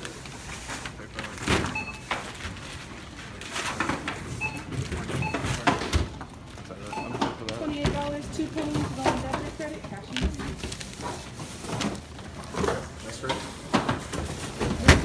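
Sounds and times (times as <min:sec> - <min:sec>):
knocks and handling clatter: 0:00.0 - 0:15.0.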